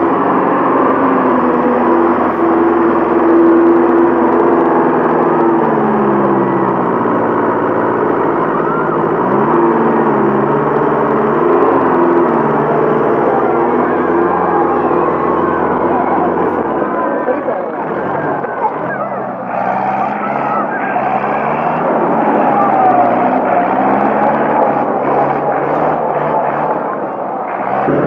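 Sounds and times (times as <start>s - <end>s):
tractor diesel engine under load: 0.0s - 28.0s
wheels churning through mud: 0.0s - 28.0s.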